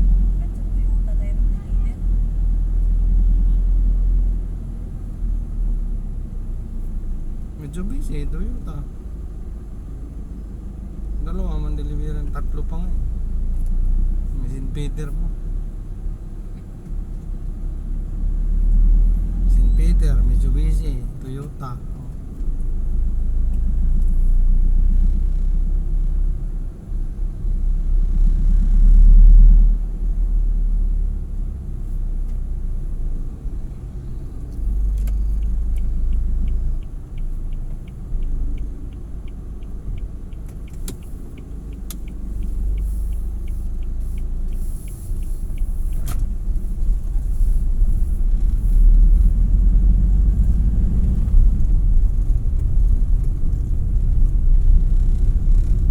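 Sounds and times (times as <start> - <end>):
vehicle rumbling: 0.0 - 55.9.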